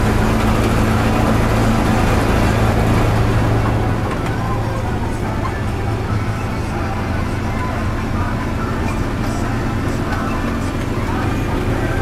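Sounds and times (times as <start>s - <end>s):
train low hum and rumble: 0.0s - 12.0s.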